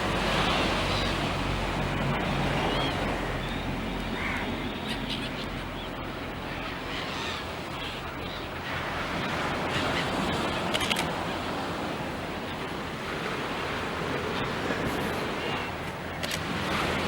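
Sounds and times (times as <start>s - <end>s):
rushing wind or surf: 0.0s - 17.0s.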